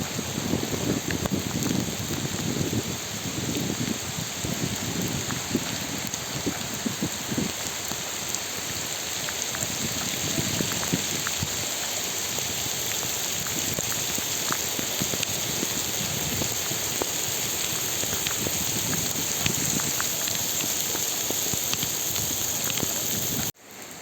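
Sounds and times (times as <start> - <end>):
raindrops hitting near microphone: 0.0 - 24.0
steady rain: 0.0 - 24.0.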